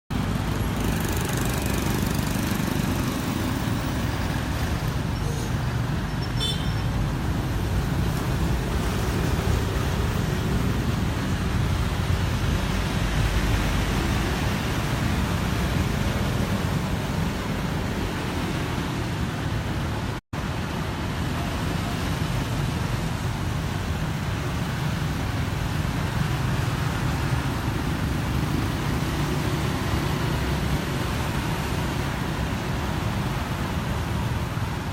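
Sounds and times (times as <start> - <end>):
cars passing on a road: 0.1 - 34.9.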